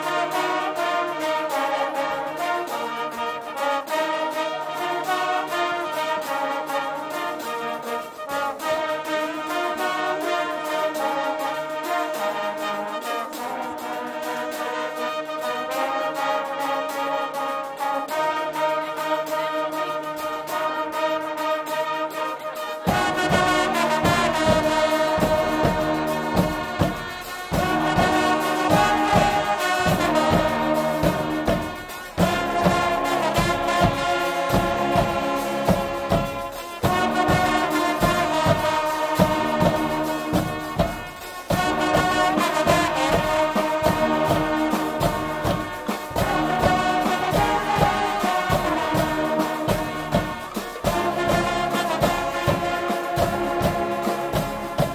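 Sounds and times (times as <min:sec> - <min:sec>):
loud brass band playing: 0:00.0 - 0:54.9
pounding drum and cymbal beat: 0:00.0 - 0:54.9.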